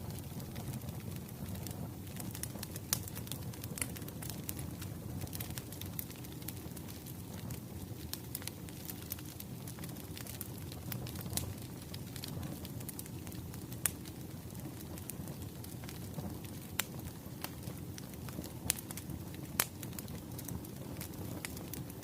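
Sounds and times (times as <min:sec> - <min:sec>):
fire crackling and popping: 0:00.0 - 0:22.0
low fire rumble: 0:00.0 - 0:22.0.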